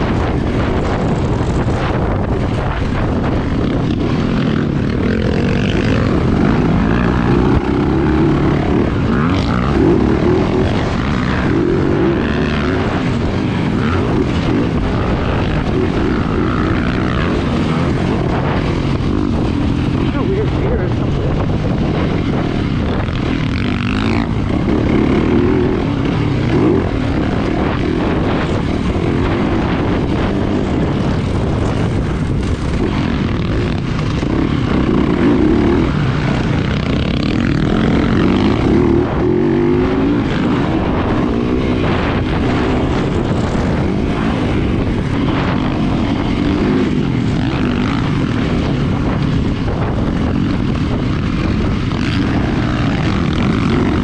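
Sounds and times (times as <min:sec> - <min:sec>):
dirt bike engine revving: 0:00.0 - 0:54.0
wind and road noise: 0:00.0 - 0:54.0.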